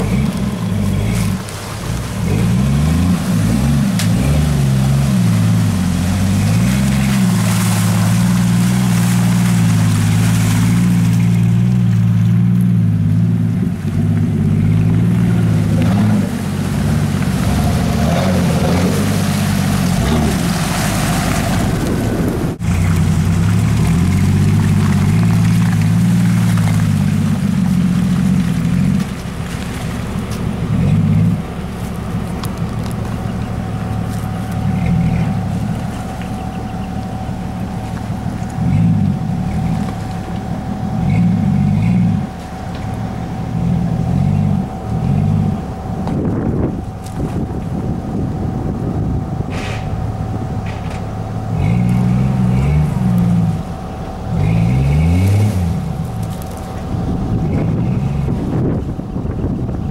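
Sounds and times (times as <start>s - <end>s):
engines revving through mud: 0.0s - 59.9s.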